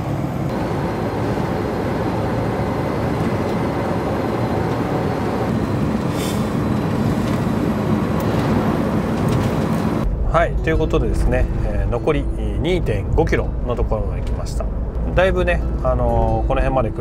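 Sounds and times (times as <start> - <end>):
road and engine noise in cab: 0.0 - 17.0.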